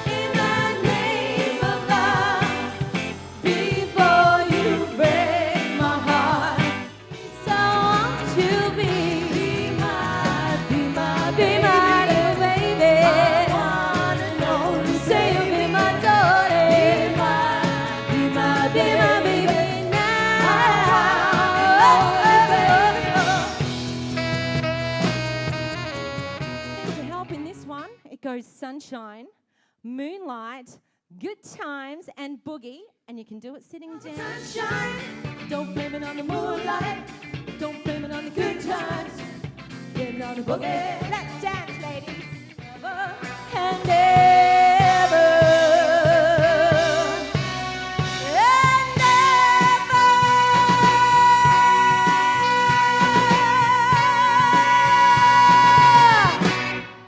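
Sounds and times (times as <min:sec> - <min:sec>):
pop music with singing: 0:00.0 - 0:26.8, 0:34.0 - 0:57.0.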